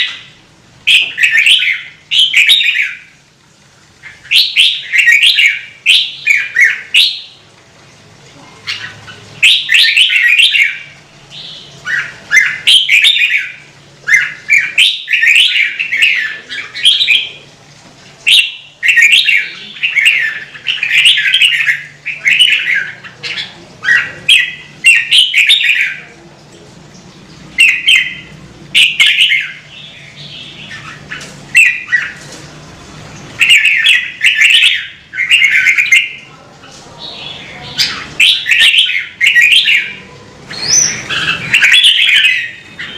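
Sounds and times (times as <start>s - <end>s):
bird singing warbled phrases: 0.0s - 3.2s, 4.0s - 7.4s, 8.5s - 17.5s, 18.2s - 26.2s, 27.6s - 32.2s, 33.2s - 42.9s.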